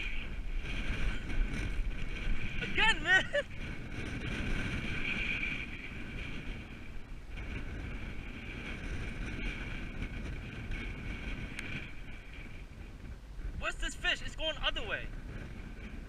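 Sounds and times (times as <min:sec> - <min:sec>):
continuous whirring: 0:00.0 - 0:16.0
wind buffeting microphone: 0:00.0 - 0:16.0.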